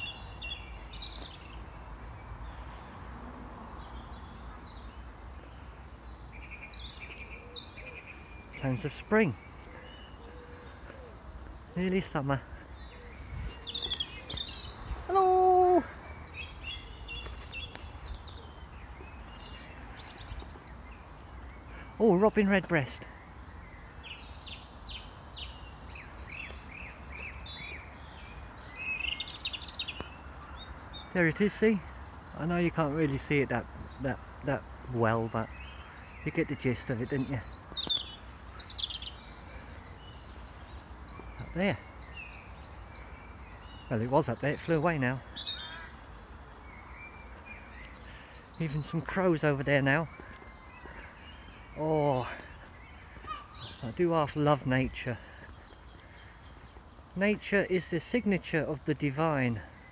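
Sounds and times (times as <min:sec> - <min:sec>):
faint songbirds chirping: 0:00.0 - 0:59.9
robin singing: 0:00.0 - 0:59.9.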